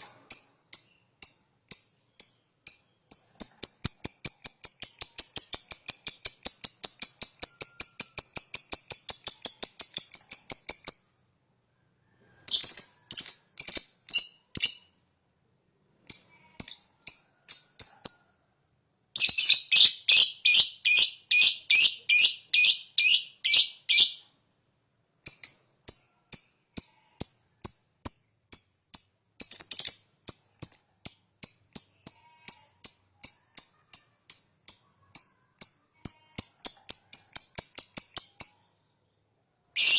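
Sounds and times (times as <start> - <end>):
lovebird chattering chirps: 0.0 - 11.1, 12.5 - 14.9, 19.2 - 24.2, 25.3 - 38.7.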